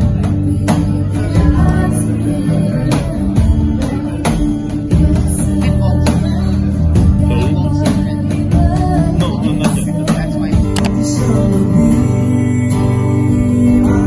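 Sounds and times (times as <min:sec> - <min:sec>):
girl singing into microphone: 0:00.0 - 0:14.0
strummed acoustic guitar: 0:00.0 - 0:14.0.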